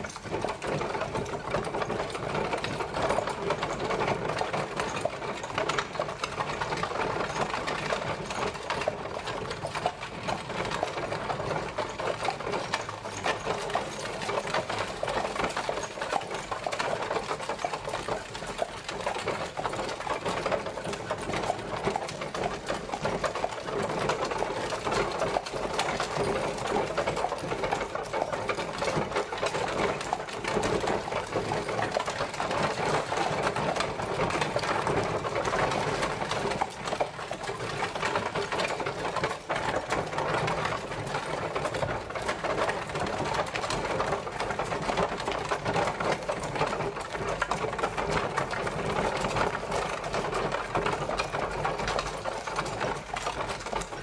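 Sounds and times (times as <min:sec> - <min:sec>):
horse-drawn carriage rattling: 0:00.0 - 0:54.0.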